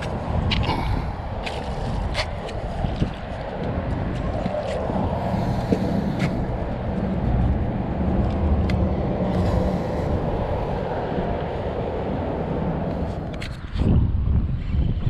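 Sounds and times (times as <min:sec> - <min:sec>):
boat motor rumbling: 0:00.0 - 0:14.0.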